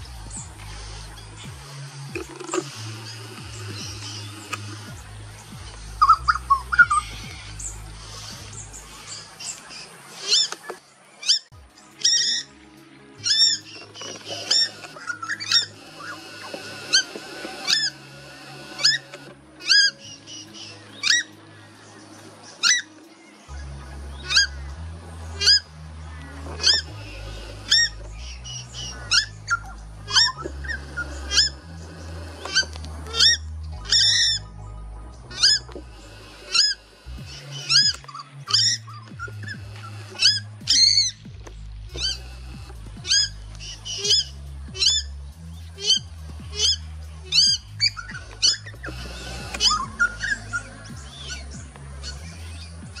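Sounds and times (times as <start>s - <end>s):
bird alarm calls: 0.0s - 12.5s, 13.2s - 22.9s, 23.6s - 53.0s
background music with bass line: 0.0s - 53.0s.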